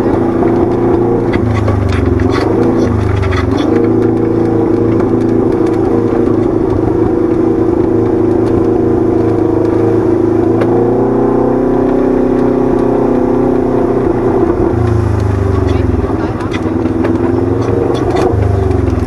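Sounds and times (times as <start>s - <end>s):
utility vehicle engine running: 0.0s - 19.0s.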